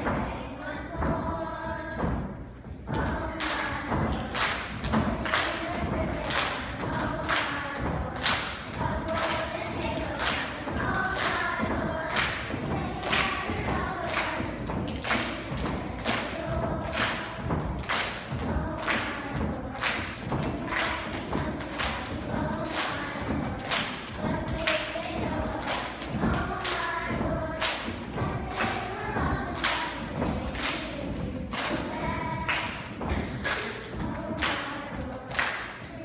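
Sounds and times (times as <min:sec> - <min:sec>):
children's choir singing: 0:00.0 - 0:36.0
steady beat of thumps: 0:00.0 - 0:36.0.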